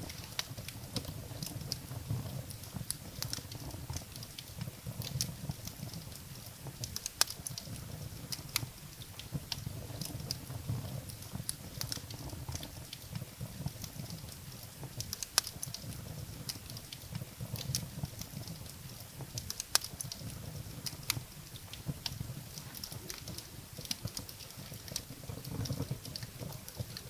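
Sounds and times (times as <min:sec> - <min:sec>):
firewood crackling and popping: 0:00.0 - 0:27.0
low rumble of flames: 0:00.0 - 0:27.0.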